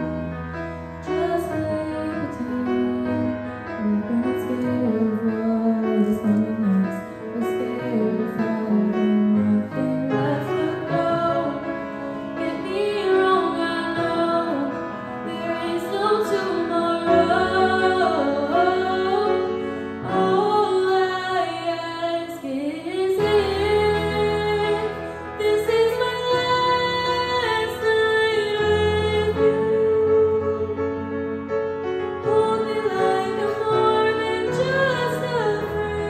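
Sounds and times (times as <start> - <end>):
piano chords: 0.0 - 36.0
woman singing ballad: 1.0 - 31.3, 32.2 - 36.0.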